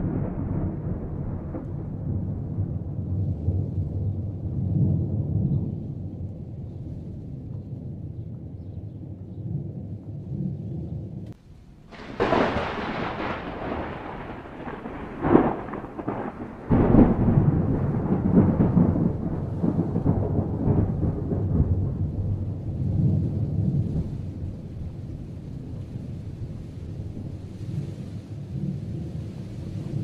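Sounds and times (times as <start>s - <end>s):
thunder clap crackling: 0.0s - 8.2s, 9.6s - 30.0s
thunder rumbling: 0.0s - 30.0s.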